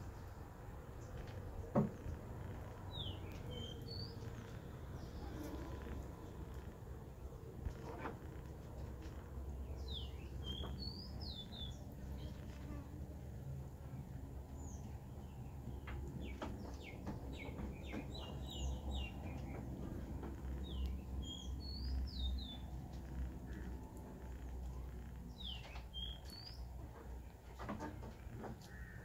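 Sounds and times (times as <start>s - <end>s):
small birds chirping: 0.1s - 29.0s.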